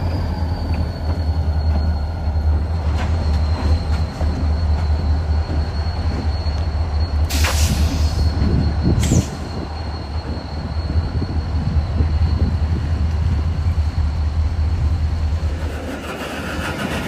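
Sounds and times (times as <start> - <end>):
high wheel squeal: 0.0 - 17.0
train rumble: 0.0 - 17.0.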